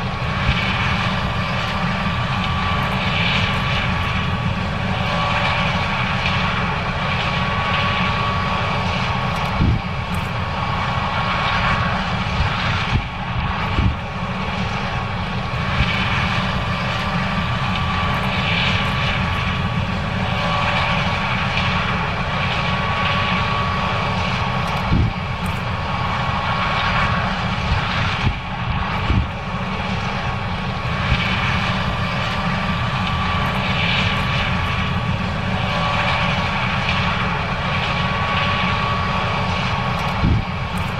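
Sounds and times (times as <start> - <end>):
combine harvester engine drone: 0.0 - 40.9
steady machine whine: 0.0 - 40.9.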